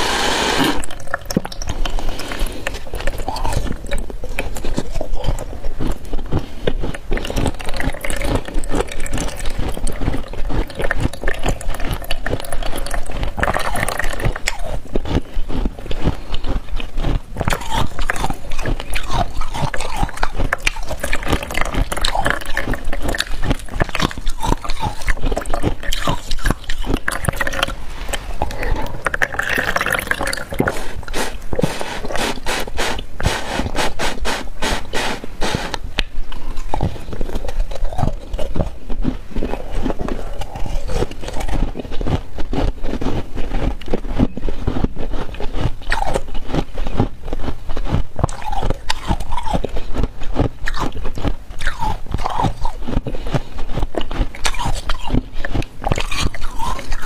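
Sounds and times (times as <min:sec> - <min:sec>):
ice being chewed and crunched: 0:00.0 - 0:57.0.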